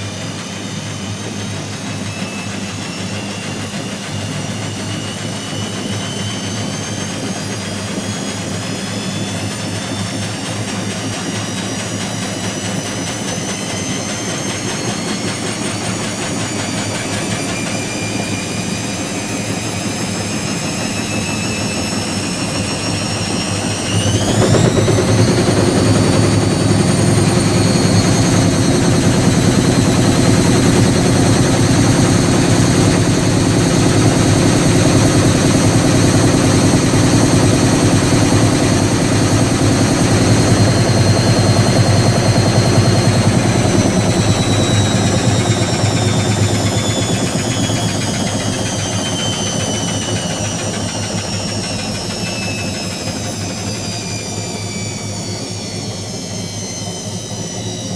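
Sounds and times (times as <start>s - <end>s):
washing machine motor whine: 0.0s - 57.9s.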